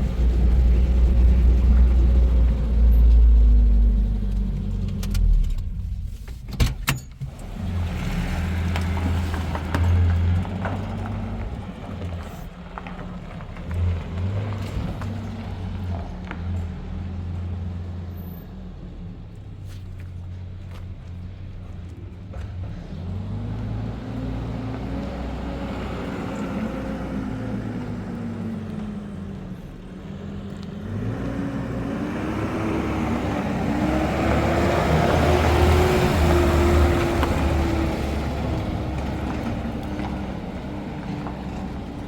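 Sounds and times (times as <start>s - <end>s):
vehicle engine running: 0.0s - 6.5s, 7.3s - 42.0s
road noise: 0.0s - 42.0s.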